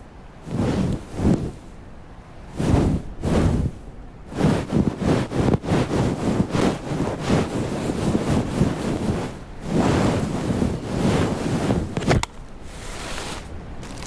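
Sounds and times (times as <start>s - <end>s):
wind gusting over microphone: 0.0s - 14.0s.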